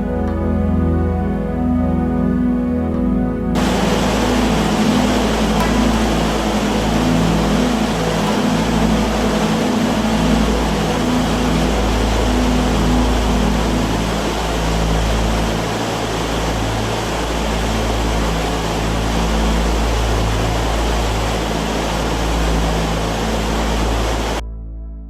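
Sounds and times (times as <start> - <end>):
waterfall roaring: 3.6 - 24.4.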